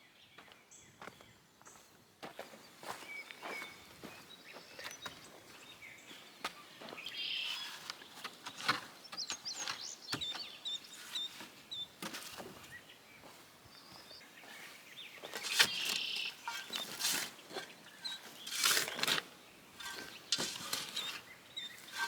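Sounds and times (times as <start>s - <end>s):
small bird chirping: 2.8s - 12.0s, 12.6s - 22.0s.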